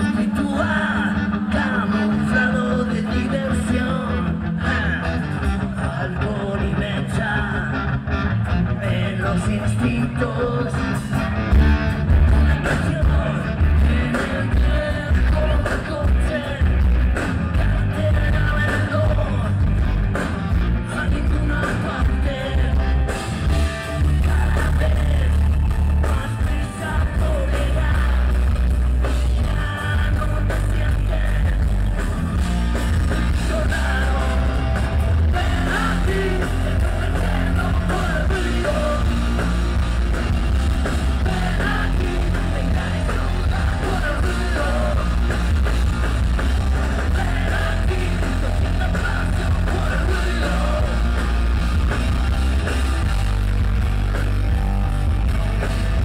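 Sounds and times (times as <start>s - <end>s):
man singing: 0.0s - 7.9s, 8.5s - 11.3s, 12.0s - 32.0s, 33.0s - 52.2s
bass guitar: 0.0s - 56.0s
drums: 0.0s - 56.0s
electric guitars: 0.0s - 56.0s.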